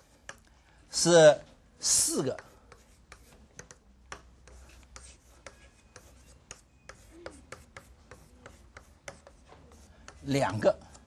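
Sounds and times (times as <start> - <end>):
chalk tapping and scratching: 1.9 - 11.0.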